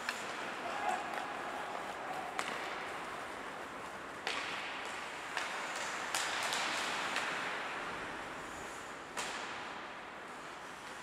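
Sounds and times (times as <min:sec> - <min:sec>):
hockey sticks and puck clacking: 0:00.0 - 0:11.0
skate blades scraping ice: 0:00.0 - 0:11.0.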